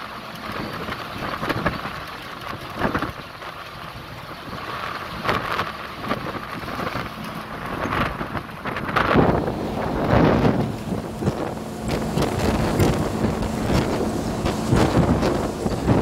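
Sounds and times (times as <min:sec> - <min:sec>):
road and engine noise: 0:00.0 - 0:16.0
wind buffeting microphone: 0:00.4 - 0:16.0.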